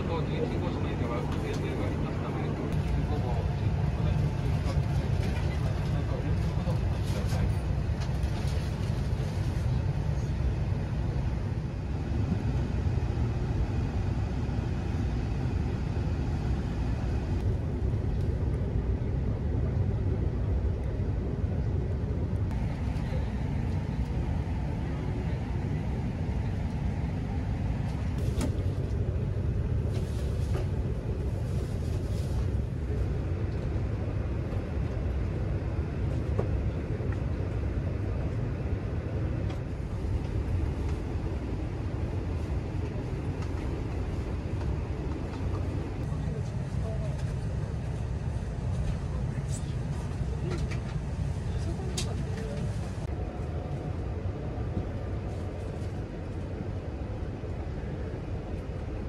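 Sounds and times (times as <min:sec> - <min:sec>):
train cabin low rumble: 0:00.0 - 0:59.0.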